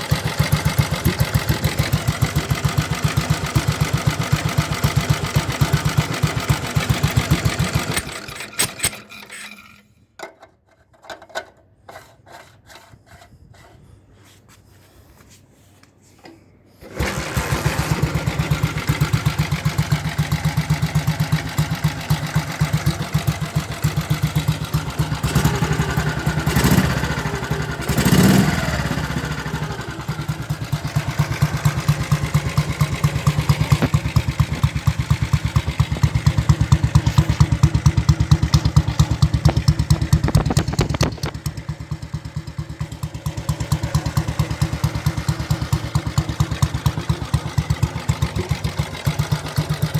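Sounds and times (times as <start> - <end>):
single-cylinder engine running: 0.0 - 9.3, 16.8 - 49.9.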